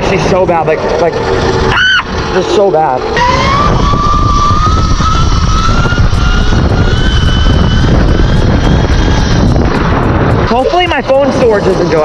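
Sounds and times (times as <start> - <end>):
wind rumble on microphone: 0.0 - 12.0
electric dirt bike motor whining: 1.2 - 12.0.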